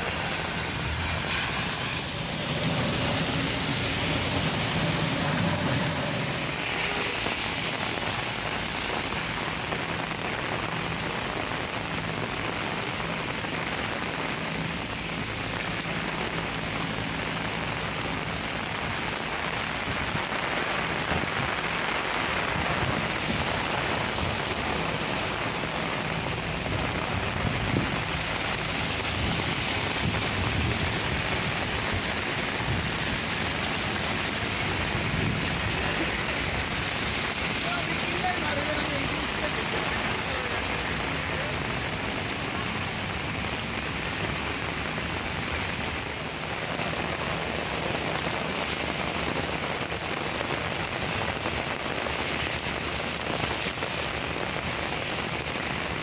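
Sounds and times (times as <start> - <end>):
heavy rain on a wet street: 0.0 - 56.0.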